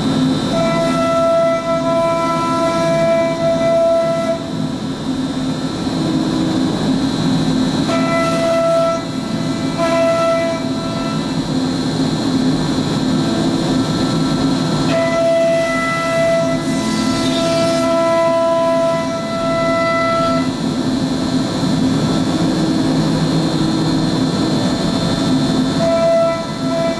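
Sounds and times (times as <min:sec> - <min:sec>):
cnc router machine noise: 0:00.0 - 0:26.9
high whine of spinning cutter: 0:00.0 - 0:26.9.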